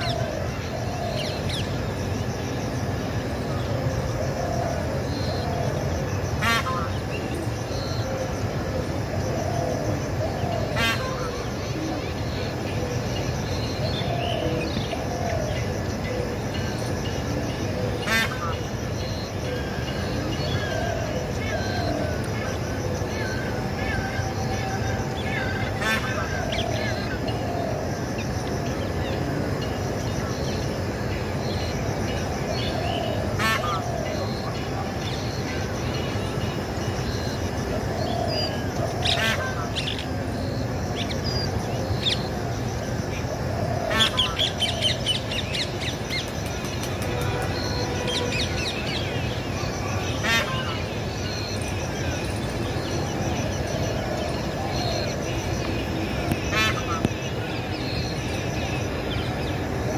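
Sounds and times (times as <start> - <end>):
outdoor background rush: 0.0 - 59.9.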